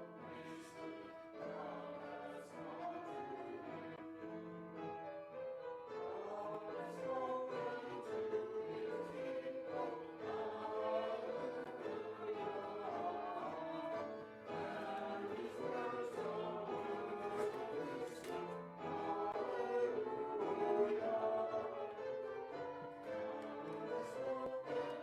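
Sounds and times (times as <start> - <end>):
choir and congregation singing hymn: 0.0 - 4.1, 6.0 - 25.0.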